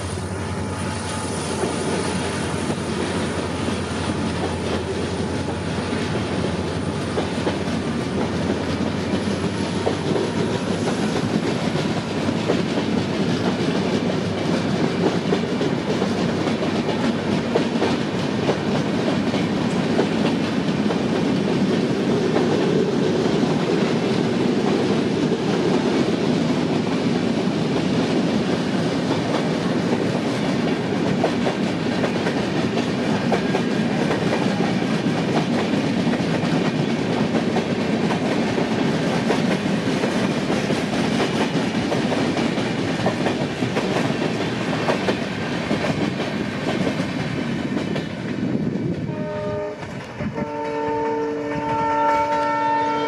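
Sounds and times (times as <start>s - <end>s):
train wheels rumbling on rail: 0.0s - 53.0s
clickety-clack over rail joints: 1.0s - 53.0s.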